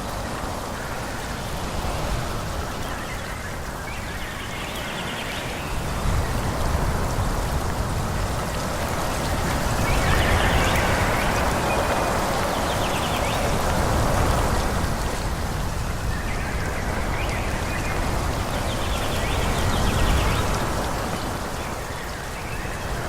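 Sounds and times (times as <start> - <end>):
wind blowing through trees: 0.0 - 23.0.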